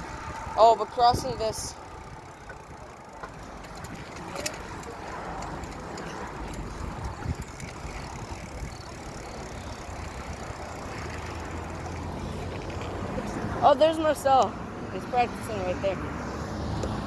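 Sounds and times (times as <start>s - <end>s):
bicycle riding rush and rumble: 0.0s - 17.0s.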